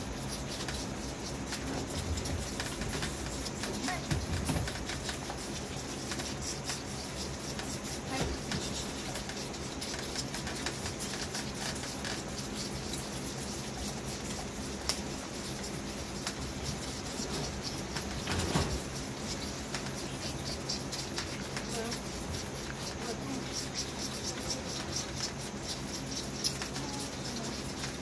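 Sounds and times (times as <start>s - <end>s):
fawns suckling from bottles: 0.0s - 28.0s.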